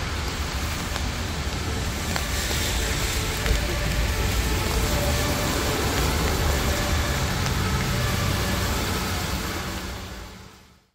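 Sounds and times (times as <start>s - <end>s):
rain on a street: 0.0s - 10.9s.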